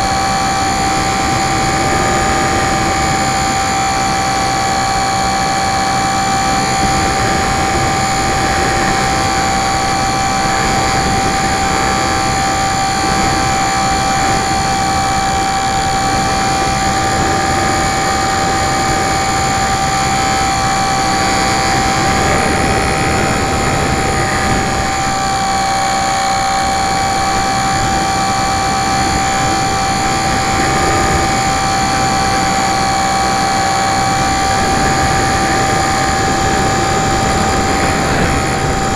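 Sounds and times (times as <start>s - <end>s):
model plane motor whine: 0.0s - 38.9s
wind rush: 0.0s - 38.9s.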